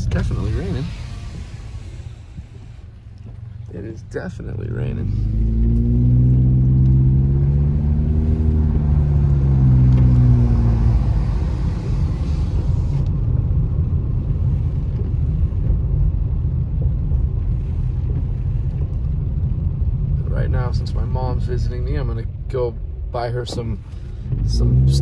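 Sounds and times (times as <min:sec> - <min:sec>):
car engine pulling away: 0:00.0 - 0:25.0
tyre rumble on wet road: 0:00.0 - 0:25.0.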